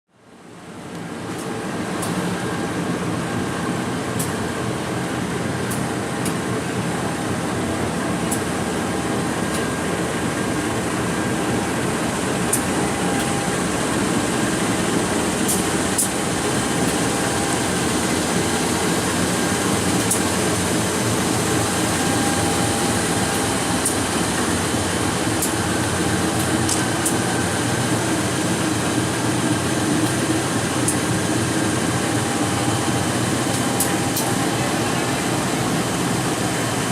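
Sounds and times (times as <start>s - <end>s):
diesel locomotive engine running hard: 0.2s - 36.9s.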